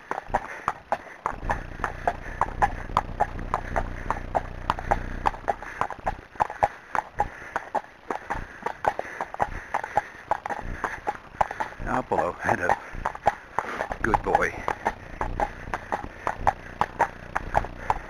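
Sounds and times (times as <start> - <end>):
hooves clip-clopping on tarmac: 0.0 - 18.0.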